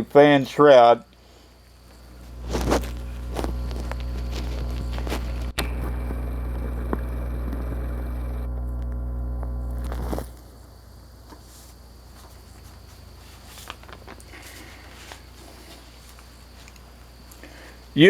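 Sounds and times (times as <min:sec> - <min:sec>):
electric fan running: 0:01.2 - 0:18.0.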